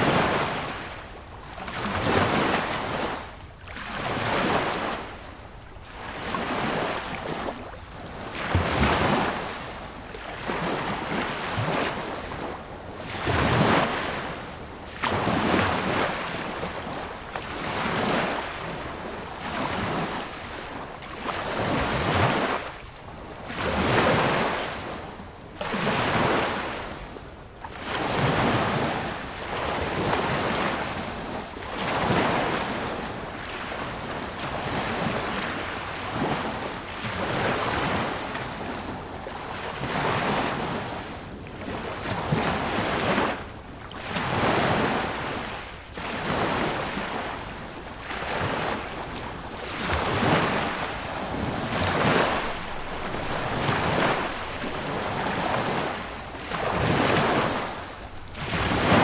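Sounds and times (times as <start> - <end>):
small waves washing on shore: 0.0 - 59.0.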